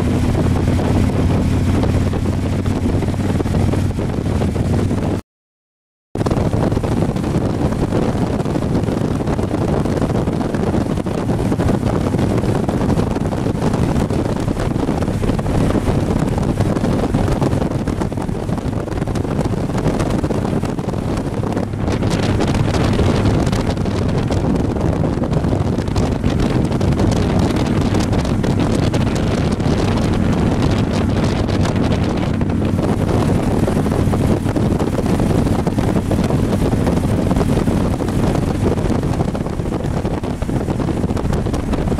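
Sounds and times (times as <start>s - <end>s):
motorcycle engine running: 0.0s - 5.2s, 6.2s - 41.9s
wind buffeting on microphone: 0.0s - 5.2s, 6.2s - 41.9s.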